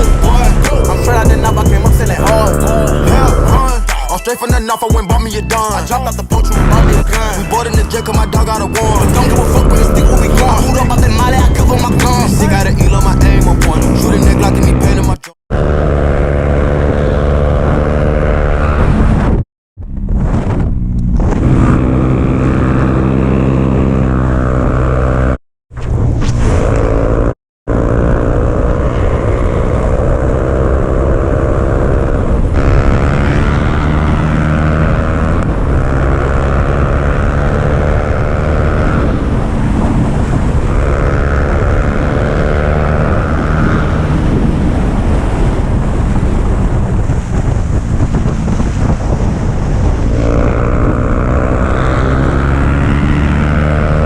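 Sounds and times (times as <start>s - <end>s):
wind noise on microphone: 0.0s - 3.9s, 5.8s - 23.9s, 25.7s - 54.0s
motorcycle engine revving: 0.0s - 4.2s, 5.3s - 25.4s, 26.5s - 54.0s.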